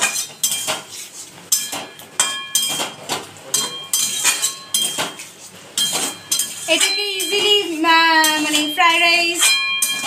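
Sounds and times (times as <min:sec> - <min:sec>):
metal utensil scraping a pan: 0:00.0 - 0:02.8, 0:03.5 - 0:10.0.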